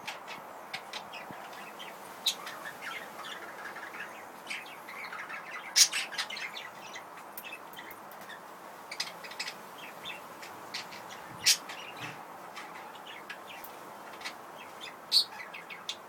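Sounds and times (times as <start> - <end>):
budgerigars chirping: 0.1 - 16.0.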